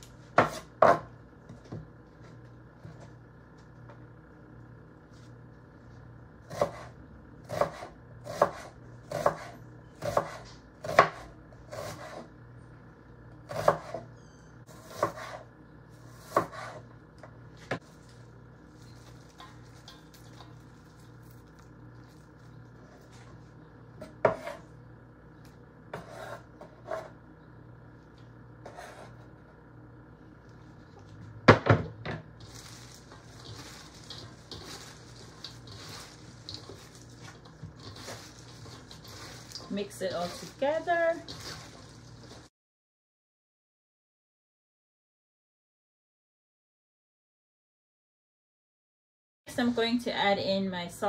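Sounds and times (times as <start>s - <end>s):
faint steady hum: 0.0s - 42.5s.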